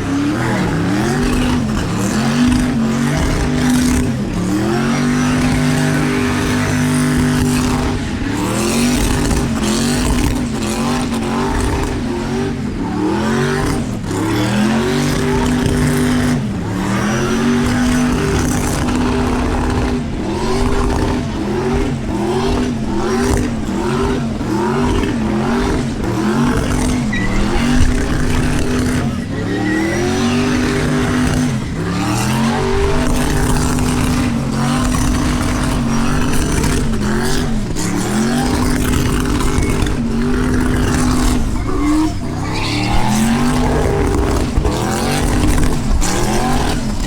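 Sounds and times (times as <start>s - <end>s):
engine revving hard: 0.0s - 47.0s.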